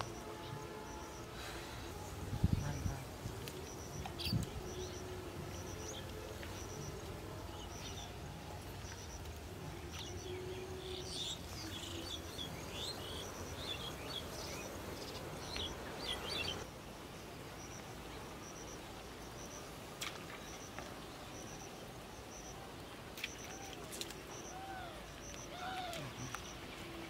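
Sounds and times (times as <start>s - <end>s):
background hiss: 0.0s - 27.0s
birds chirping: 0.0s - 27.0s.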